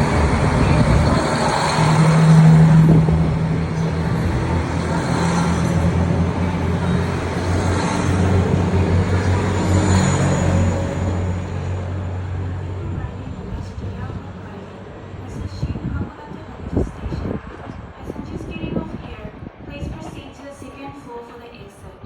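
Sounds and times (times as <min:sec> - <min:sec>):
train diesel engines droning: 0:00.0 - 0:22.0.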